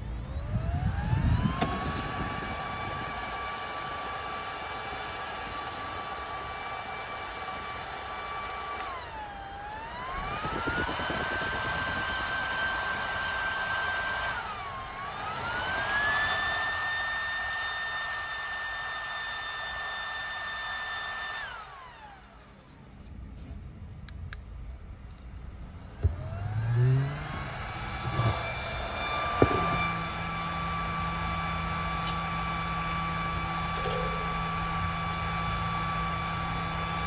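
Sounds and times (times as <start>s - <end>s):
cooling fan whining: 0.0s - 37.0s.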